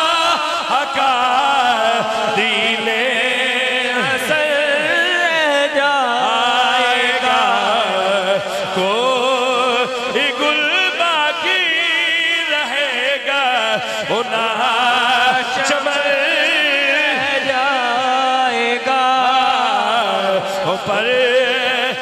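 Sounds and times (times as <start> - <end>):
man singing into microphone: 0.0 - 22.0.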